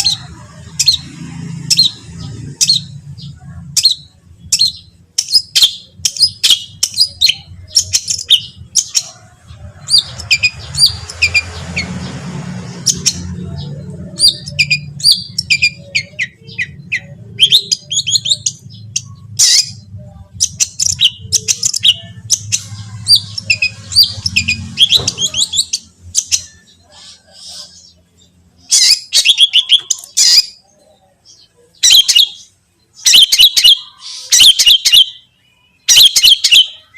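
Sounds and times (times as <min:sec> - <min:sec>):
bird singing harsh chips: 0:00.0 - 0:36.9.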